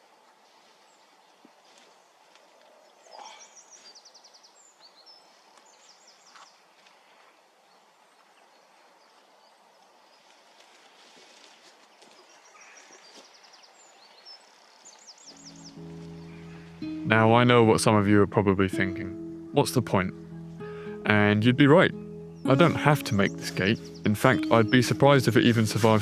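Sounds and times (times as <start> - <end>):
faint songbird singing: 0.0 - 26.0.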